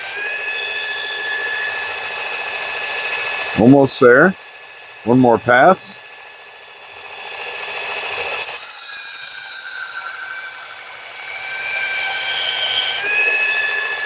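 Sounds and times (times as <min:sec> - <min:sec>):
belt sharpener motor whine: 0:00.0 - 0:03.6, 0:06.0 - 0:14.0.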